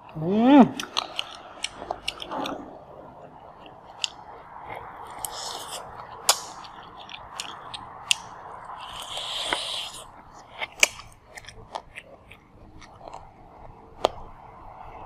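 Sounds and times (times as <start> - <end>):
person biting and chewing food: 0.7 - 14.5
crisp clicks: 0.8 - 2.6, 3.6 - 14.2
hissy crunching: 0.8 - 15.0.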